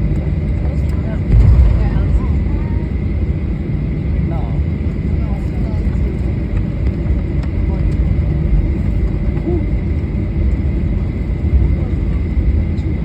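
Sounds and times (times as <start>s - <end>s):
airliner cabin rumble: 0.2s - 13.0s.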